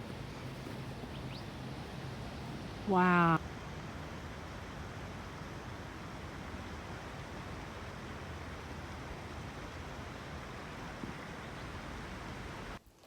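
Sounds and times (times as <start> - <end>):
floodwater rushing: 0.0 - 12.8.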